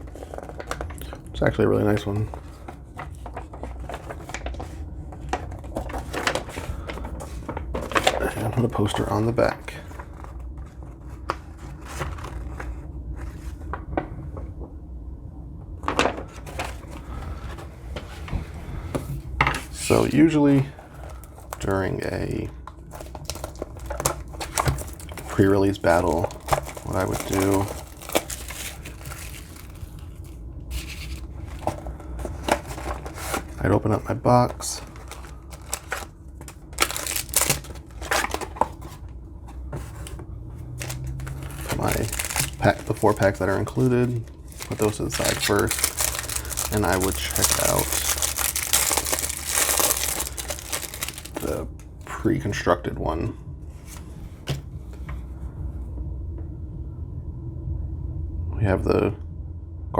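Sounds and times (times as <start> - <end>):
paper and cardboard rustling: 0.0 - 13.8, 15.9 - 51.7
low steady hum: 0.0 - 59.9.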